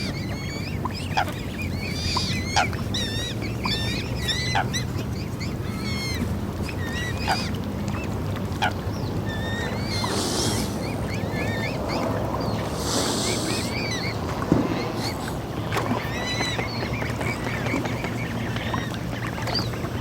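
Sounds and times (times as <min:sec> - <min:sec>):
waterfowl calling: 0:00.0 - 0:20.0.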